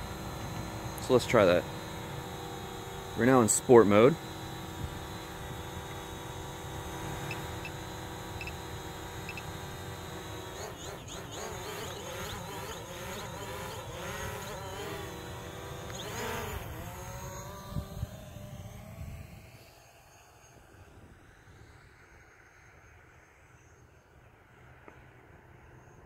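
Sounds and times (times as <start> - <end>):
drone propeller whine: 0.0 - 26.0.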